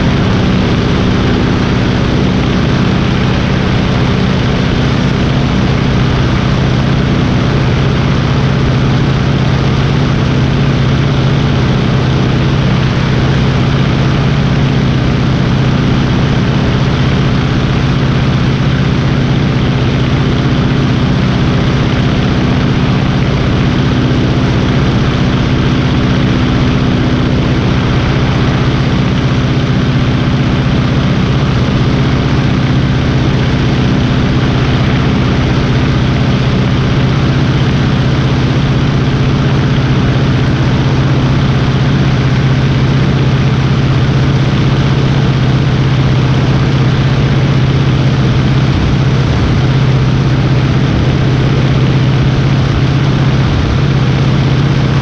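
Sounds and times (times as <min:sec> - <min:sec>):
biplane engine and propeller: 0:00.0 - 0:55.0.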